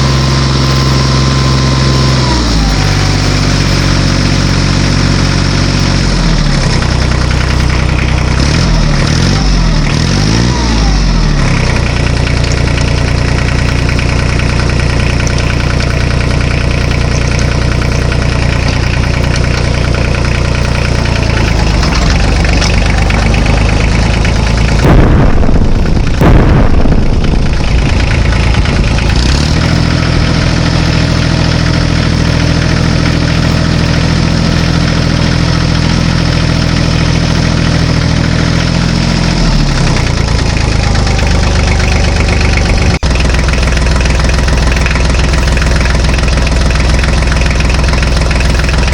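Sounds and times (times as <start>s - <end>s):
tractor engine idling: 0.0s - 48.9s.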